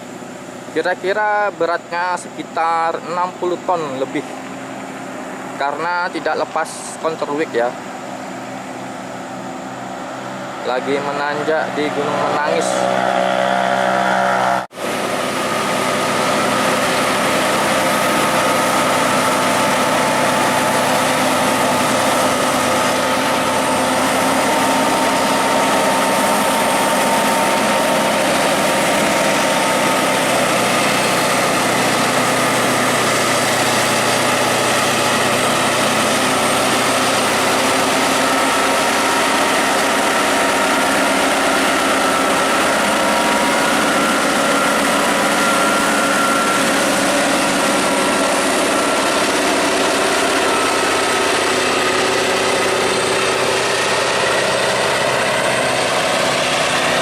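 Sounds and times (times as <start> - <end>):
truck diesel engine under load: 0.0 - 57.0.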